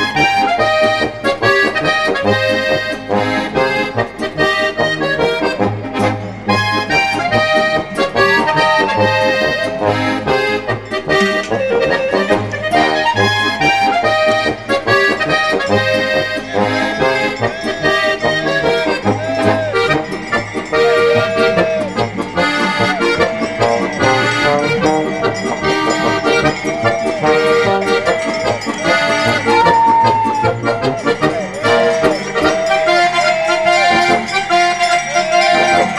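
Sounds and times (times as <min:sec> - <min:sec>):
accordion folk music: 0:00.0 - 0:35.9.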